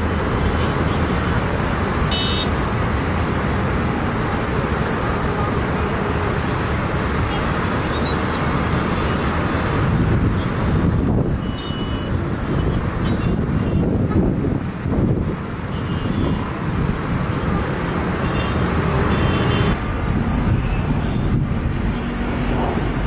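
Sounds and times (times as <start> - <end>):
rumble of engines and vehicles: 0.0 - 23.0.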